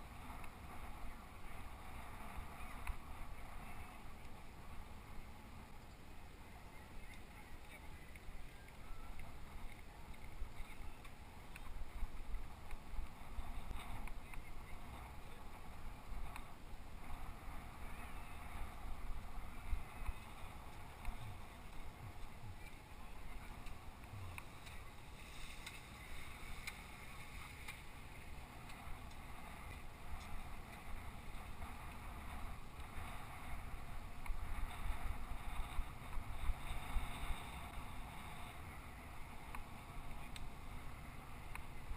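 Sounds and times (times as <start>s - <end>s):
wind buffeting microphone: 6.4s - 41.9s.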